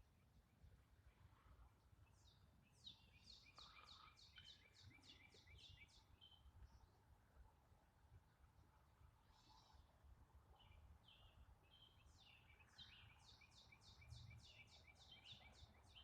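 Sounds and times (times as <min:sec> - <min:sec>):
faint low background noise: 0:00.0 - 0:16.0.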